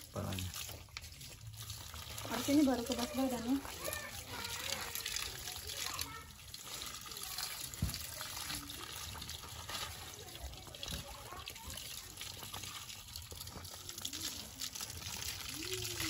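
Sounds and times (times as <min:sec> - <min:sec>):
water from hose splashing: 0:00.0 - 0:16.0.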